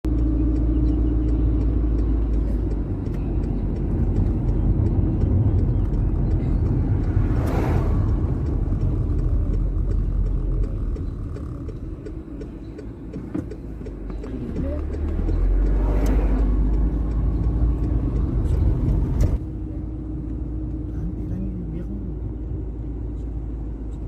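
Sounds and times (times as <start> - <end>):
moving vehicle rumble: 0.0 - 24.0.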